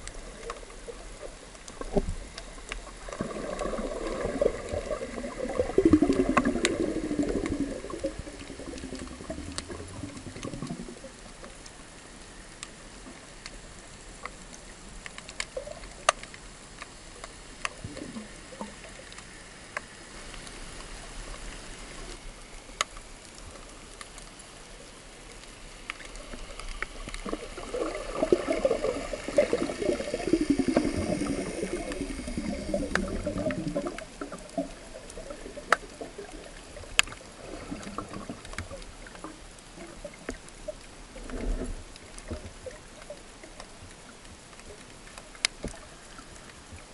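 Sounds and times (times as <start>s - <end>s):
underwater gurgling: 0.0s - 46.9s.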